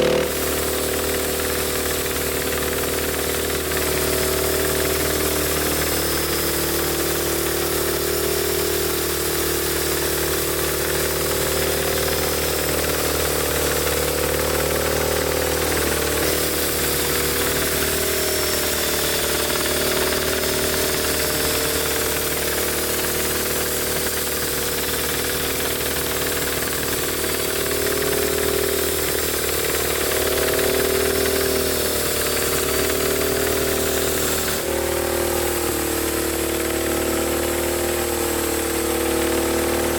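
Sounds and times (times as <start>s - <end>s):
engine hum: 0.0s - 39.9s
wavering saw whine: 0.0s - 39.9s.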